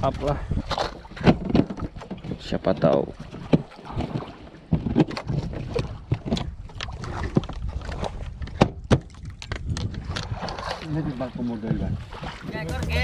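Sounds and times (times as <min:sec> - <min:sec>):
wind and water against hull: 0:00.0 - 0:13.0
clicks and knocks of tackle: 0:00.1 - 0:10.9.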